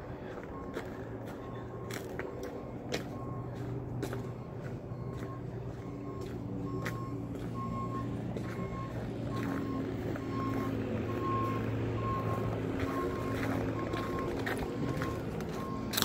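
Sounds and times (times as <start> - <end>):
engine idling: 0.0 - 16.0
reversing alarm beeping: 0.0 - 16.0.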